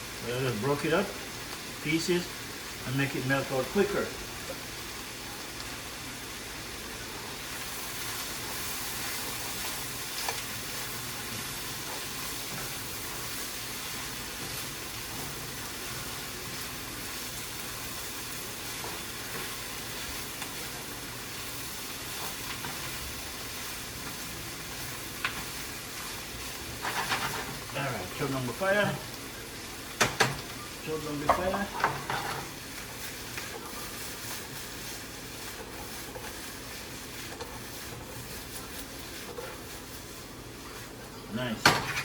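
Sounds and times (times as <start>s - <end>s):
vegetables sizzling in a pan: 0.0s - 42.0s.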